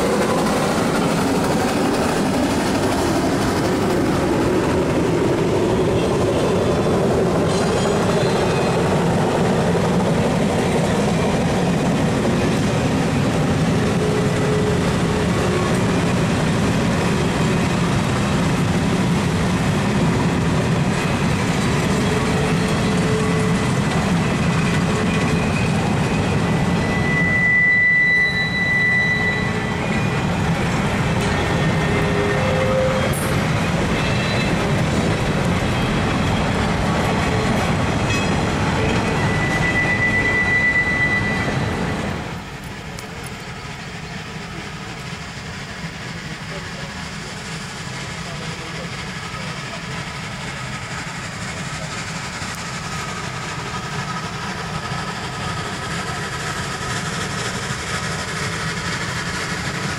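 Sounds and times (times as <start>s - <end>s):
train wheels rumbling on track: 0.0s - 59.9s
wheels squealing on rail: 0.0s - 59.9s.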